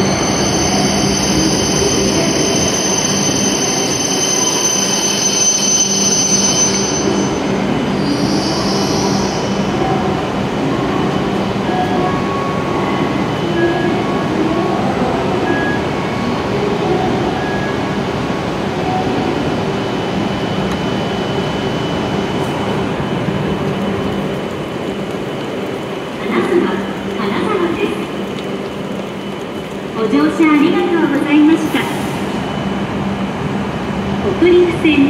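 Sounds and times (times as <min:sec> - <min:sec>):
train equipment hum: 0:00.0 - 0:35.0.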